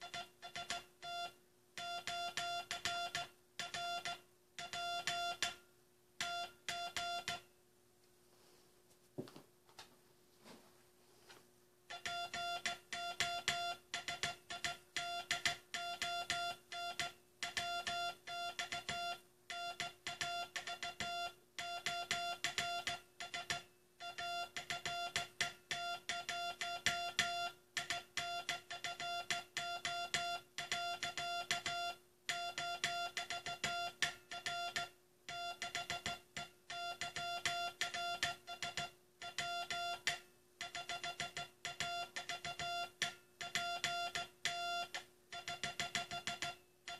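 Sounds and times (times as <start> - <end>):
morse code beeps: 0.0 - 5.6, 6.2 - 7.5, 11.9 - 46.9.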